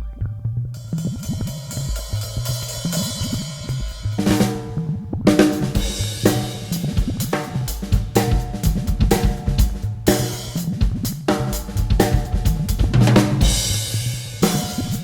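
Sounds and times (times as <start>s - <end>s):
drum kit playing: 0.7s - 15.0s.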